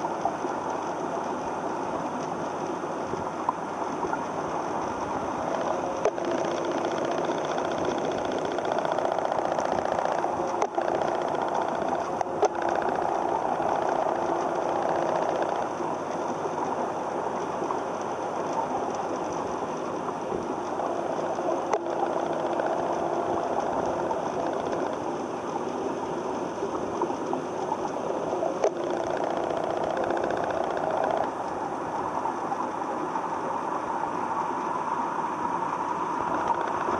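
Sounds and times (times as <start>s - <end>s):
mechanical hum: 0.0s - 36.9s.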